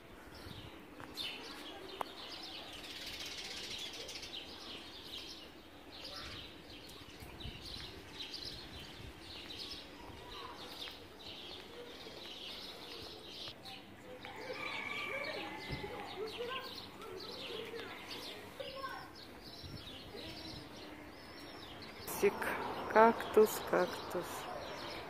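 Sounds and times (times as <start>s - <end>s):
low outdoor background: 0.0s - 25.0s
small birds chirping: 0.2s - 25.0s.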